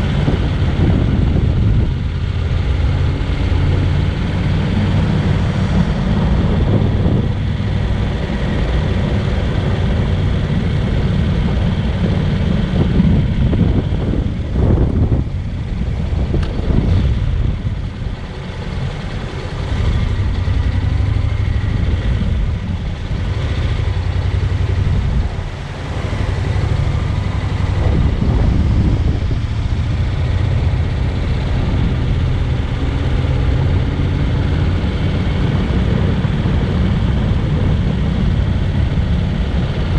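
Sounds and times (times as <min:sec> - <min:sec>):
motorcycle engine running: 0:00.0 - 0:39.9
wind rushing: 0:02.9 - 0:18.3, 0:19.2 - 0:39.9.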